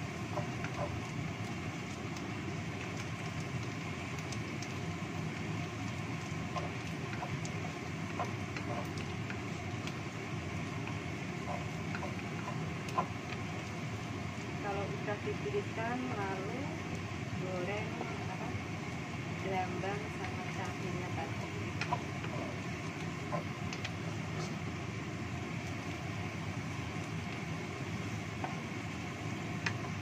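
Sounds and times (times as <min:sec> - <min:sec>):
shallots sizzling in oil: 0:00.0 - 0:30.0.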